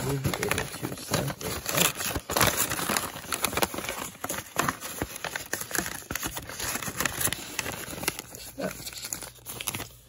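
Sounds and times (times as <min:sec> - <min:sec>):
paper envelope rustling: 0:00.0 - 0:10.0.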